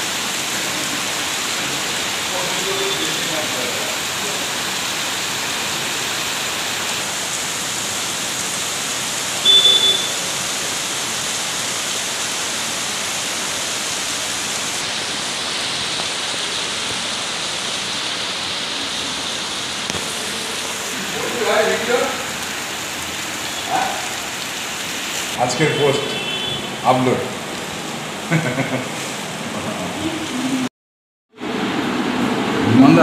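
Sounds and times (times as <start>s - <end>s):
heavy rain pouring: 0.0s - 30.7s, 31.3s - 33.0s.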